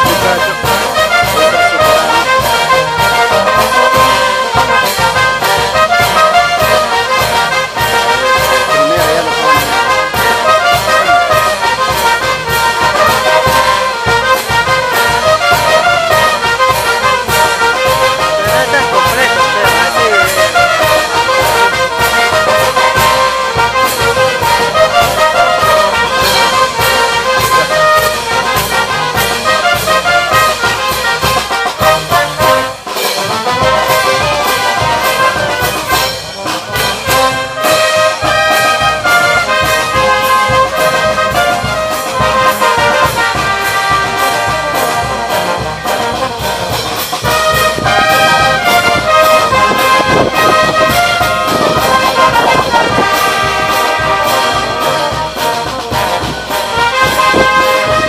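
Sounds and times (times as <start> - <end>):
bass drum and snare beat: 0.0 - 58.0
brass band playing: 0.0 - 58.0.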